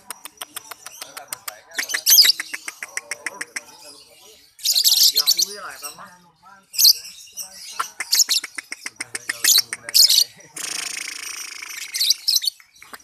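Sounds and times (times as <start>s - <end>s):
bird chirping and chattering: 0.0s - 13.0s.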